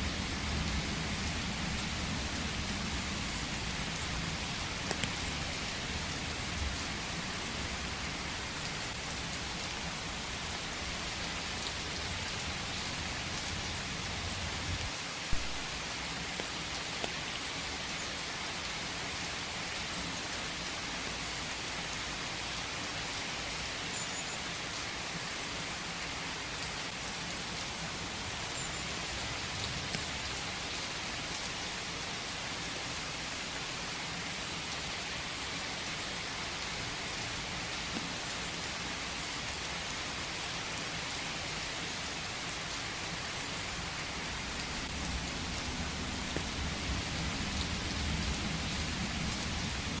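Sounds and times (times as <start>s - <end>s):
rain falling on leaves: 0.0s - 50.0s.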